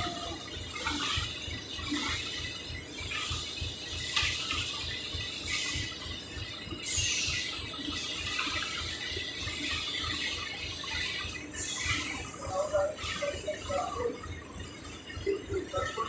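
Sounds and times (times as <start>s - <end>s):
machinery pulsing: 0.0s - 16.0s.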